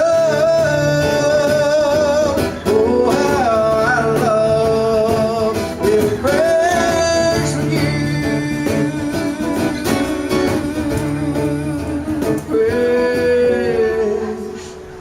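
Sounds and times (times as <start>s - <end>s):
acoustic guitar: 0.0s - 15.0s
two voices singing in harmony: 0.0s - 15.0s.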